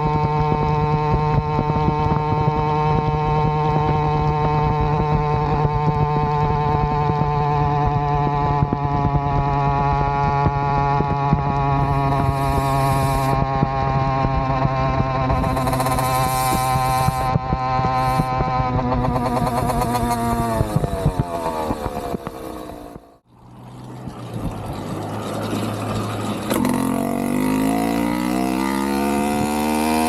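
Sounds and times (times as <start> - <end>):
two-stroke engine running: 0.0 - 30.0
wind rumble on microphone: 0.0 - 30.0.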